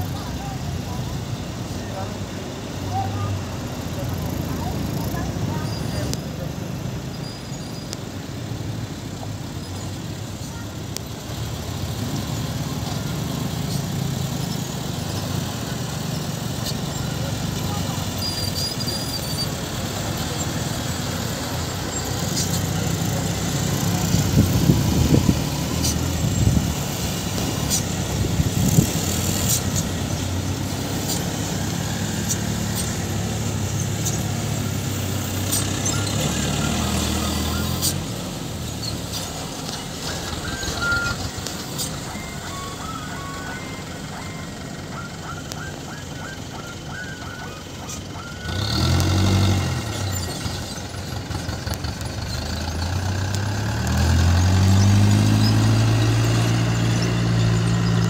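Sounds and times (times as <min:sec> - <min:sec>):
dump truck diesel engines: 0:00.0 - 0:58.0.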